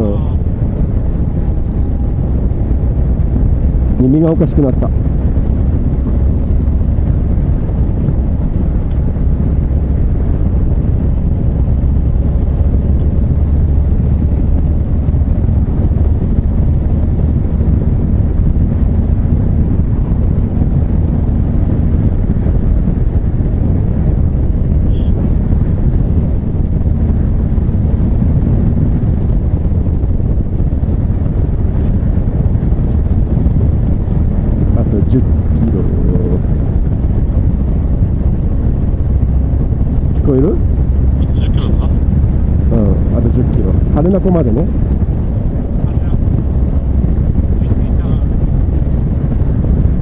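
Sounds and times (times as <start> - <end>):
motorcycle engine cruising: 0.0 - 50.0
wind rush on microphone: 0.0 - 50.0.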